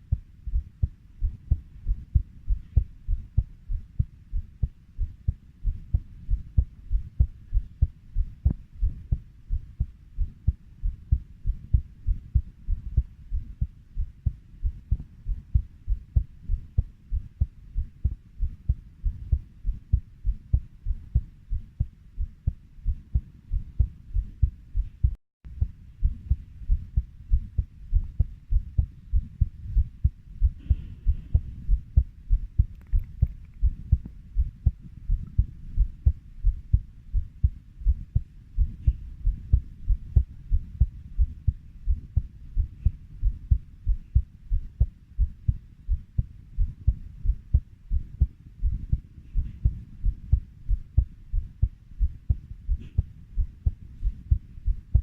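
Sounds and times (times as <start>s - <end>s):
heartbeat thuds: 0.0s - 55.0s.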